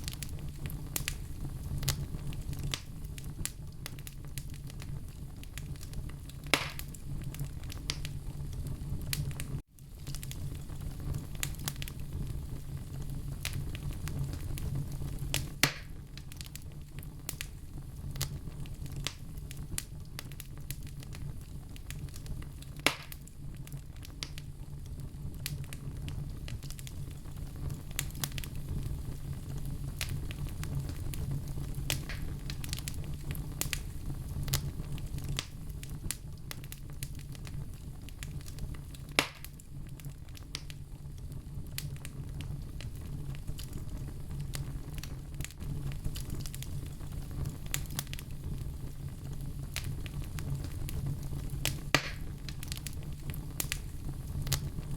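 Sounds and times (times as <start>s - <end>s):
fire crackling in a stove: 0.0s - 54.9s
loud fire pops: 0.0s - 54.9s.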